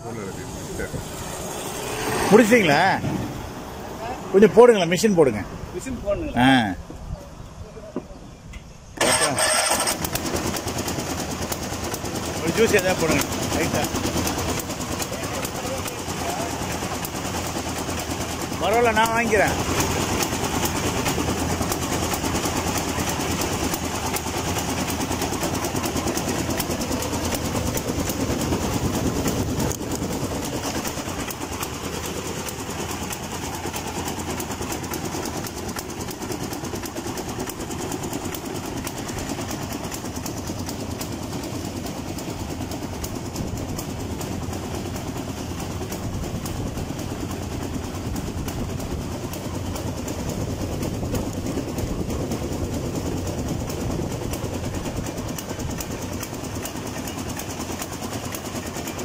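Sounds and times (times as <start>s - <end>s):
sugarcane juicer rollers clattering: 0.0s - 5.4s, 8.6s - 59.0s.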